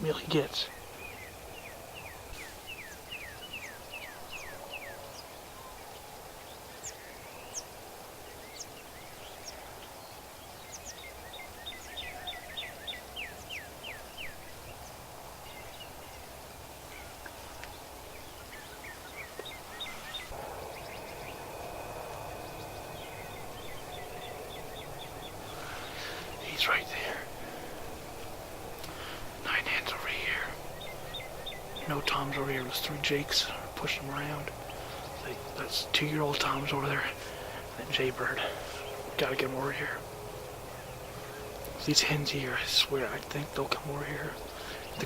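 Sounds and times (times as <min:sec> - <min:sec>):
songbirds whistling: 0:00.0 - 0:45.0.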